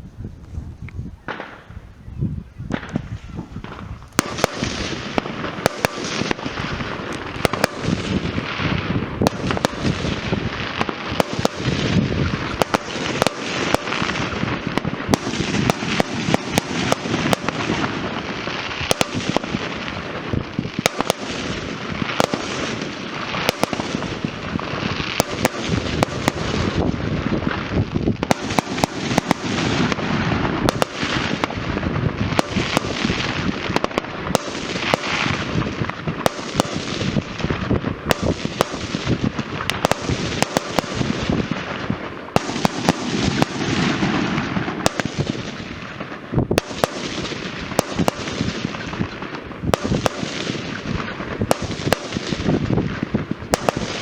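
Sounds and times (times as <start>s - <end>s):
fireworks crackling and banging: 1.2s - 1.8s, 2.7s - 54.0s.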